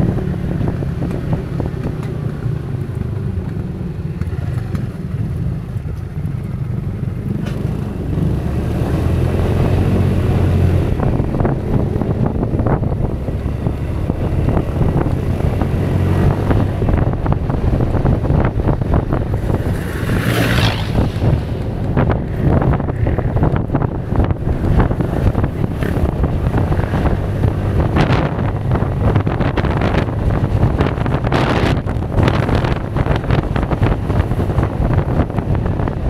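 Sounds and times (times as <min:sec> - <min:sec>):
scooter engine climbing uphill: 0:00.0 - 0:36.0
wind buffeting microphone: 0:00.0 - 0:36.0.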